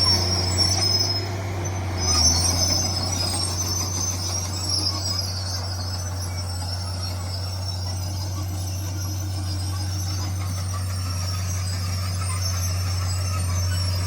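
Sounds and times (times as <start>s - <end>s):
diesel engine droning: 0.0s - 14.0s
high thin squeal: 0.0s - 14.0s.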